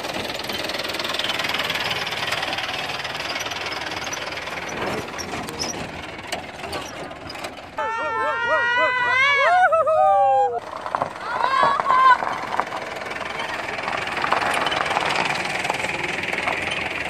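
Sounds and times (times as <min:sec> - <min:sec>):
knocks and rattles: 0:00.0 - 0:07.8, 0:10.8 - 0:17.0
road noise rumble: 0:00.0 - 0:17.0
truck engine on dirt track: 0:00.0 - 0:17.0.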